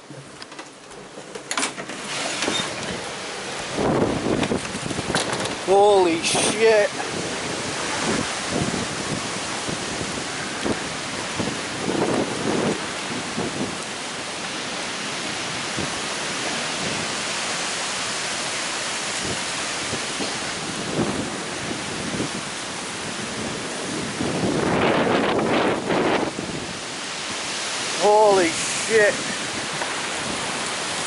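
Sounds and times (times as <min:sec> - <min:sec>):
heavy rain pouring: 0:00.0 - 0:31.0
wind buffeting microphone: 0:02.7 - 0:31.0.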